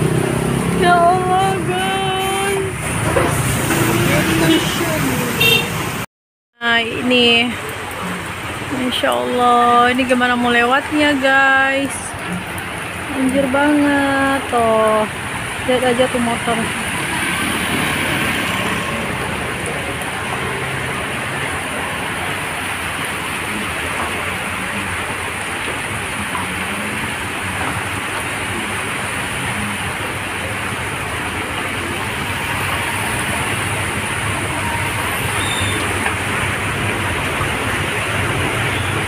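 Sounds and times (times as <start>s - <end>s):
heavy rain on a street: 0.0s - 39.0s
vehicles driving through floodwater: 0.0s - 39.0s.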